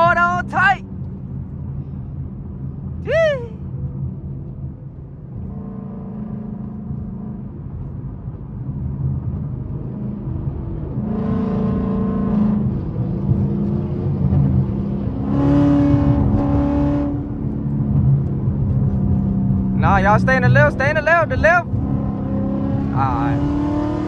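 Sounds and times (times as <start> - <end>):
car engine drone from cabin: 0.0 - 24.0.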